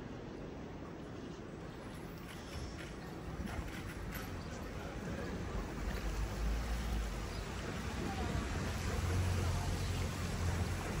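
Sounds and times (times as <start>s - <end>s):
street noise rush: 0.0s - 11.0s
faint voices of passers-by: 0.7s - 11.0s.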